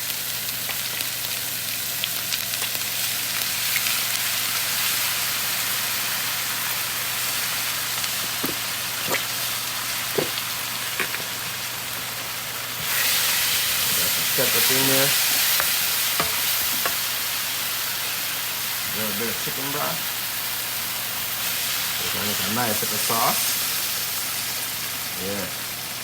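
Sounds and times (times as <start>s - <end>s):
stir-fry sizzling in a pan: 0.0s - 26.0s.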